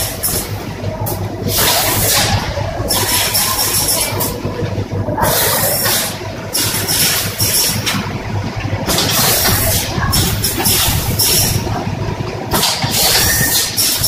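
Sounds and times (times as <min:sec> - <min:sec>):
packaging machine hum: 0:00.0 - 0:14.0.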